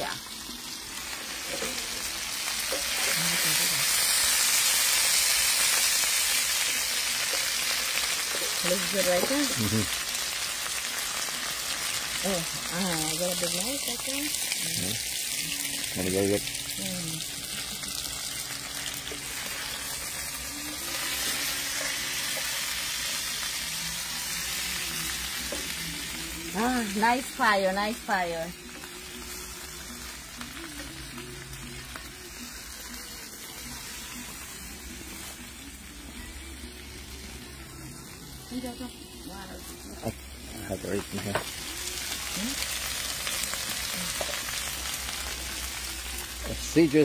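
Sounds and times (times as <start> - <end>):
meat sizzling in a frying pan: 0.0 - 47.0.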